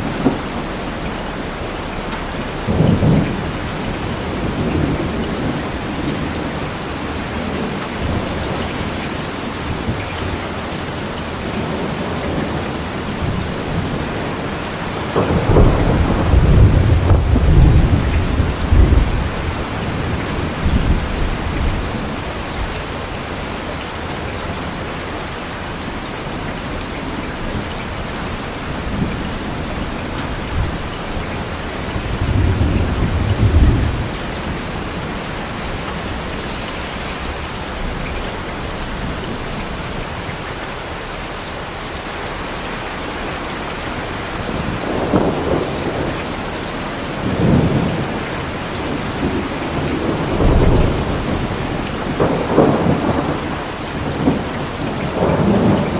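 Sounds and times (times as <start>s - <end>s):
rolling thunder: 0.0s - 10.6s, 11.3s - 22.9s, 26.7s - 40.4s, 43.9s - 55.9s
heavy rain: 0.0s - 55.9s.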